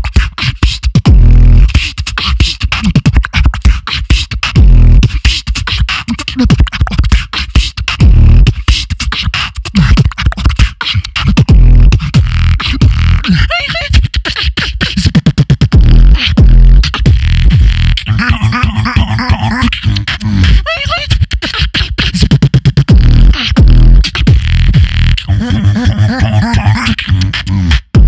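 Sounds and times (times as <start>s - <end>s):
beatboxing into a microphone: 0.0s - 28.0s.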